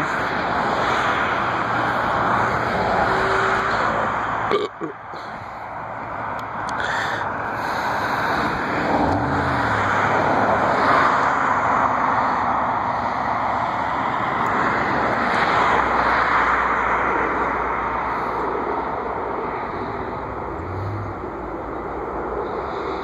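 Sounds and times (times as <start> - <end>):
jet airliner engine roar: 0.0 - 23.0.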